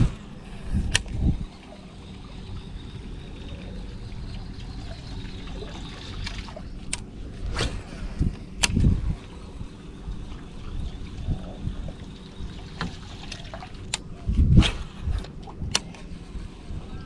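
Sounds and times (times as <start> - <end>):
low steady rumble: 0.0 - 17.0
water lapping and trickling: 0.0 - 17.0.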